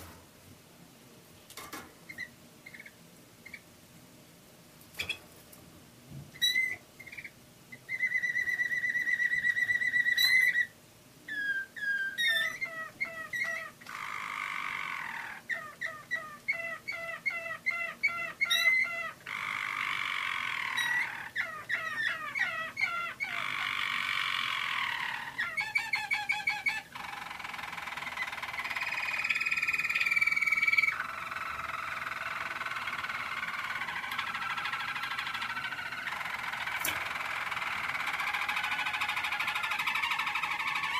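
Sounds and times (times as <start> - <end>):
canary singing trills: 2.1 - 3.6, 6.3 - 40.9.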